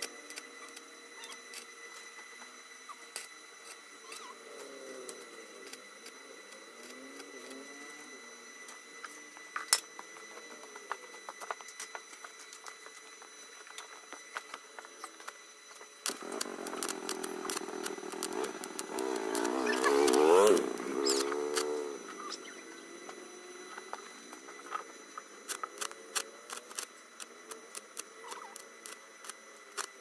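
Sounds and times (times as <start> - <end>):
faint engine: 0.0 - 30.0
loud steady engine note: 0.0 - 30.0.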